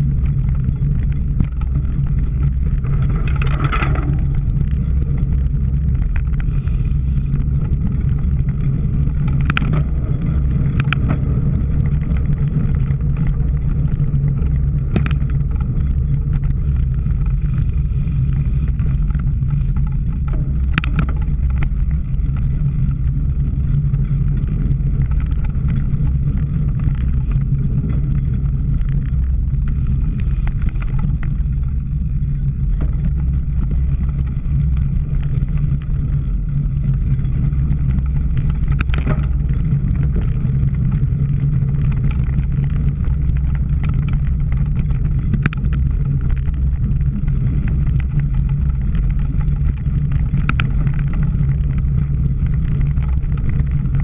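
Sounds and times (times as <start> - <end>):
tyre noise on rough ground: 0.0 - 54.0
wind buffeting: 0.0 - 54.0.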